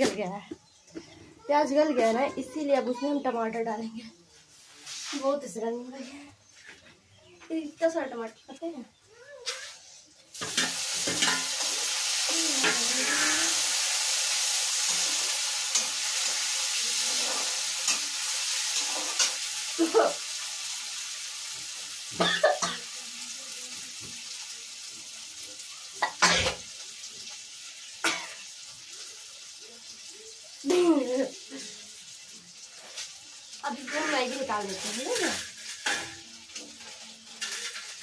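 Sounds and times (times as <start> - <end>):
tomatoes sizzling in oil: 0.0 - 5.9, 8.3 - 38.0.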